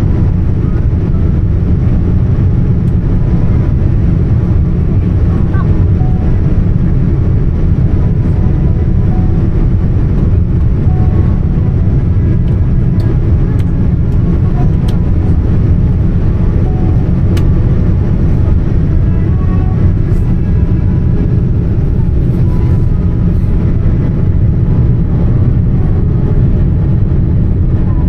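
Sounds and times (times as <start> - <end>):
airplane cabin engine rumble: 0.0 - 28.0.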